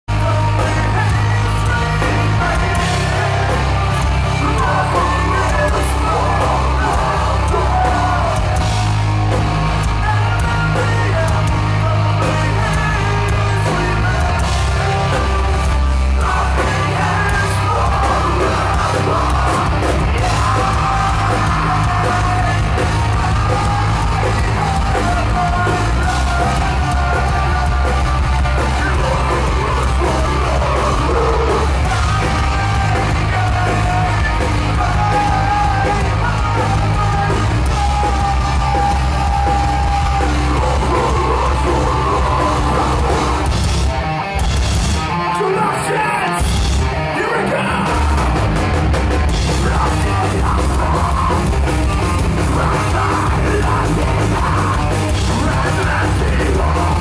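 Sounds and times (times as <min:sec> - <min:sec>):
live metal band playing: 0:00.1 - 0:57.0.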